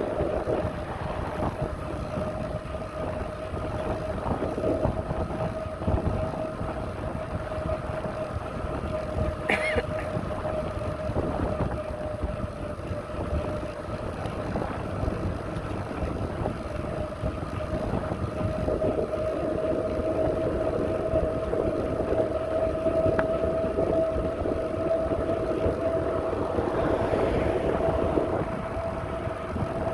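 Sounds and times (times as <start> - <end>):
steady whine: 0.0 - 29.9
wind rumbling on microphone: 0.0 - 29.9.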